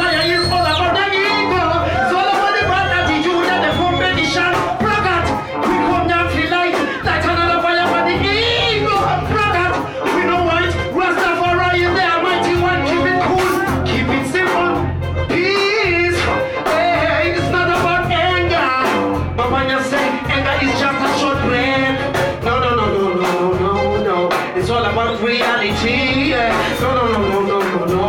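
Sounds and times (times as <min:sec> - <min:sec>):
man singing into a microphone: 0:00.0 - 0:28.0
reggae band playing: 0:00.0 - 0:28.0.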